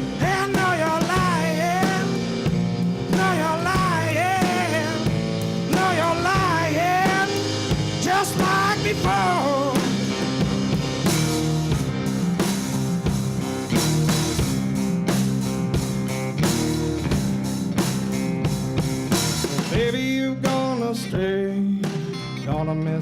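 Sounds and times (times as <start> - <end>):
slide guitar lead: 0.0 - 20.9, 21.6 - 23.0
blues band playing: 0.0 - 23.0.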